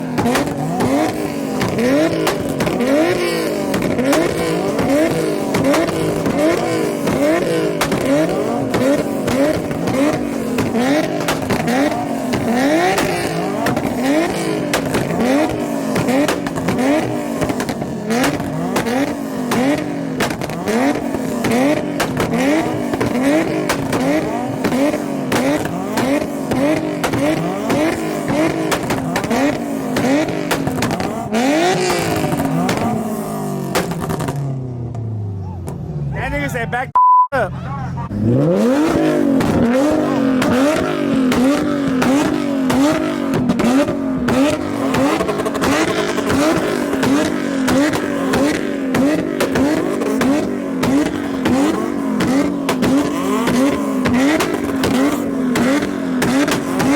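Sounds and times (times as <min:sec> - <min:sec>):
car engine revving: 0:00.0 - 0:36.8, 0:37.4 - 0:56.9.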